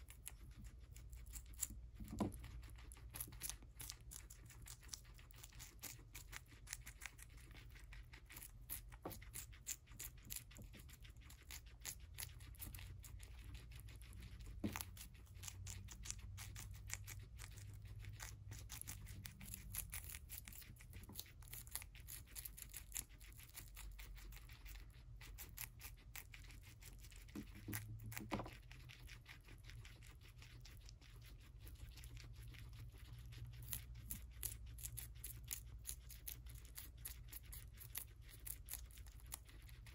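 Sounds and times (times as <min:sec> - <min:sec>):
guinea pigs chewing celery: 0:00.0 - 0:39.9.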